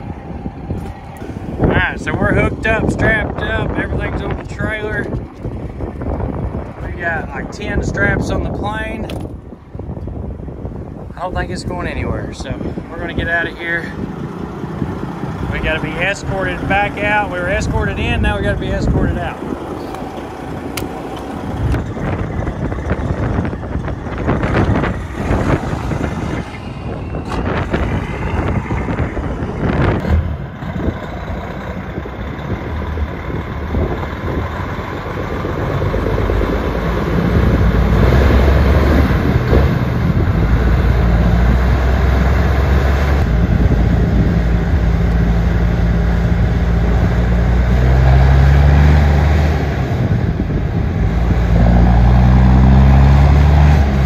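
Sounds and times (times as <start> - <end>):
diesel truck engine pulling: 0.0 - 54.0.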